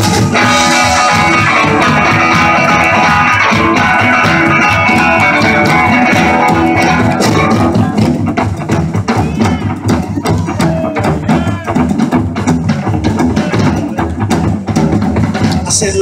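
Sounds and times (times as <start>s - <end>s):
electric guitar: 0.0s - 15.8s
bass guitar: 0.0s - 16.0s
drum kit: 0.0s - 16.0s.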